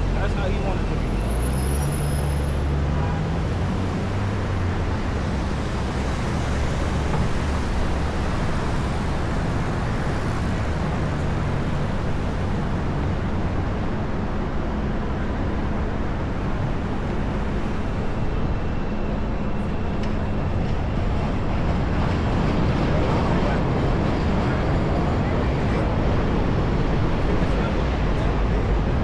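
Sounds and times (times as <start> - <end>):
low engine drone: 0.0 - 1.7, 2.4 - 29.0
passing cars and buses: 0.0 - 29.0.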